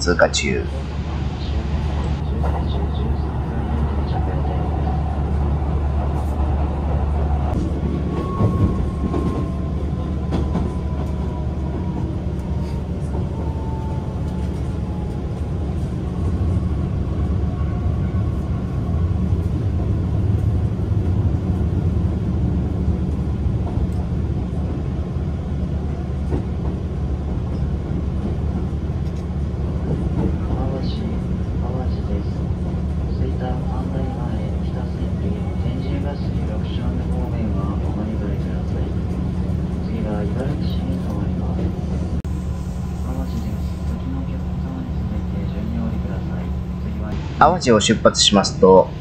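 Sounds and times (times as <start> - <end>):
train cabin low rumble: 0.0 - 49.0.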